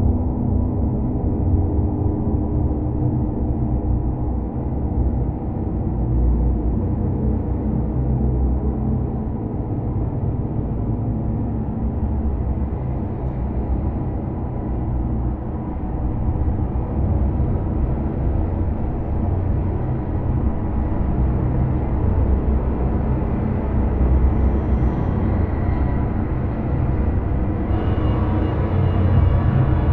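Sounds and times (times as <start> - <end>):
dark ambient drone: 0.0 - 29.9.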